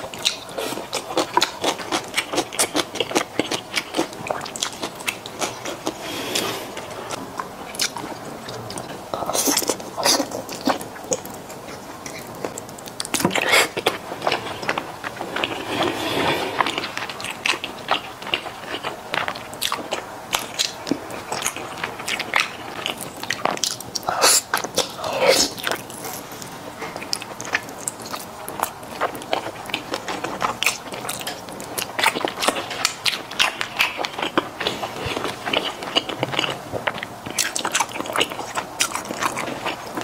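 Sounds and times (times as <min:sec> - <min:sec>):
person chewing: 0:00.0 - 0:40.0.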